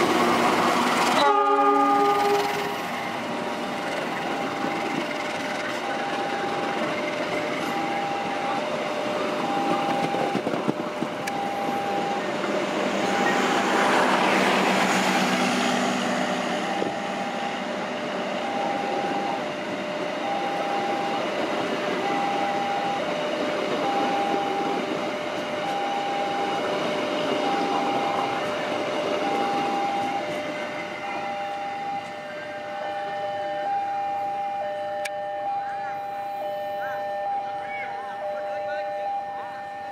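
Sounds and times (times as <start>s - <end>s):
train rumbling past: 0.0s - 36.4s
two-tone crossing alarm beeps: 1.2s - 14.0s, 16.1s - 39.9s.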